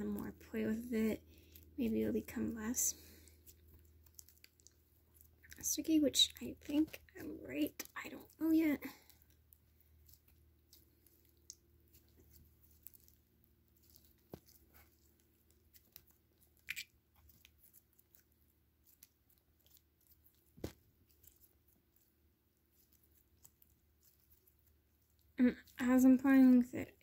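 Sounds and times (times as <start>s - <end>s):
slime clicking and crackling: 0.0s - 27.0s.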